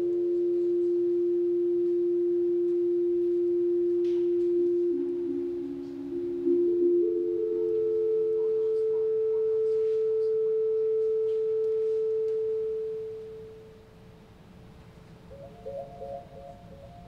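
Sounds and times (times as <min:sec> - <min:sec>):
theremin long pure note: 0:00.0 - 0:13.8, 0:15.3 - 0:17.0.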